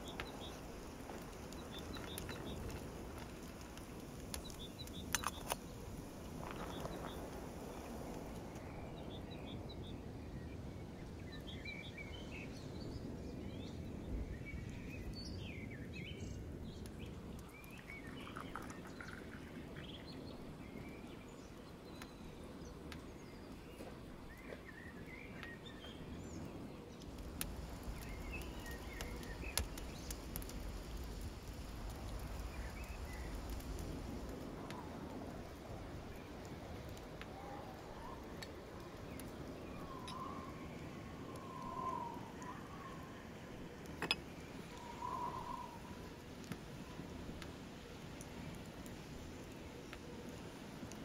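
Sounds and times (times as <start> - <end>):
small birds chirping and twittering: 0.0 - 51.0.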